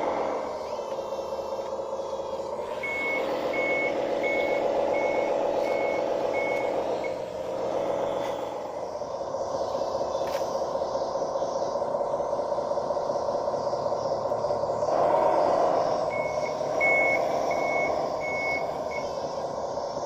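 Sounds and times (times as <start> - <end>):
high reversing beeps: 0.0 - 20.0
model bulldozer motor drone: 0.0 - 20.0.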